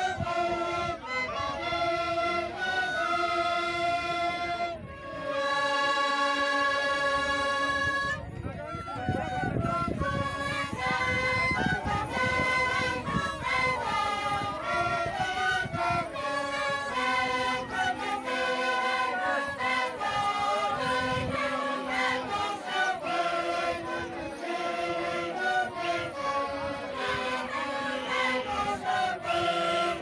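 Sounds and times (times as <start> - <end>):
group playing chant-like tune: 0.0 - 30.0.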